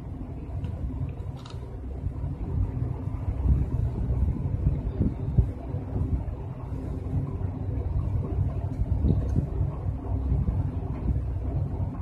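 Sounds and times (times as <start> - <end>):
low uneven rumbling: 0.0 - 12.0.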